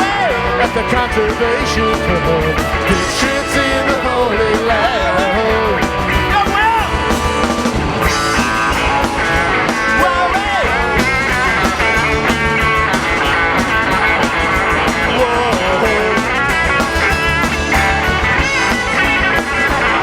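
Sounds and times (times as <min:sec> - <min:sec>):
bass: 0:00.0 - 0:20.0
drums: 0:00.0 - 0:20.0
electric lead guitar: 0:00.0 - 0:20.0.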